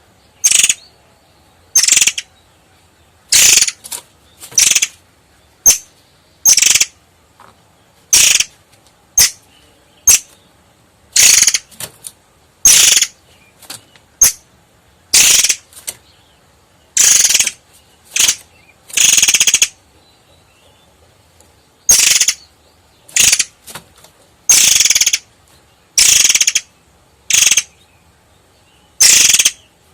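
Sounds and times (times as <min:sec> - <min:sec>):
bird singing rattling trills: 0:00.0 - 0:07.0, 0:08.1 - 0:08.6, 0:09.2 - 0:11.8, 0:12.6 - 0:14.4, 0:15.1 - 0:21.0, 0:21.6 - 0:23.6, 0:24.4 - 0:29.8.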